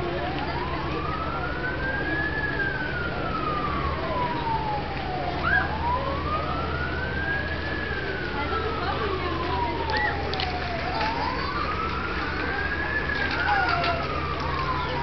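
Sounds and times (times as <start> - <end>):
siren wailing: 0.0 - 15.0.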